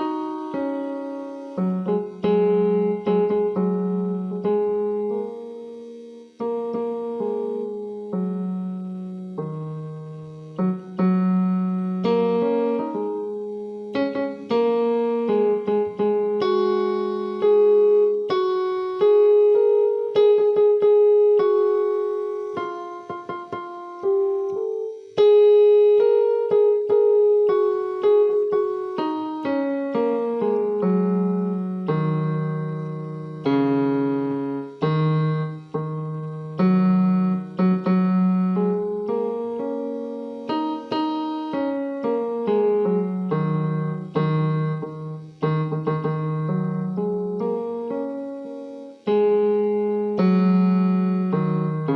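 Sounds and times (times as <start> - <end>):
slow solo piano piece: 0.0 - 51.9.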